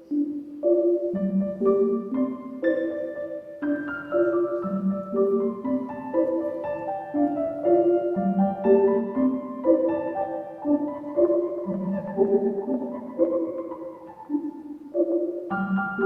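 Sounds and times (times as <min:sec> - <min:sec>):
instrumental ballet music: 0:00.0 - 0:16.0.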